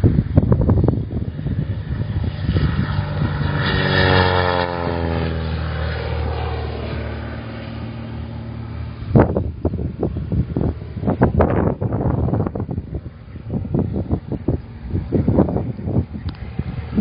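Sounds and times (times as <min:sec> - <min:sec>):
propeller plane flying past: 0:00.0 - 0:17.0.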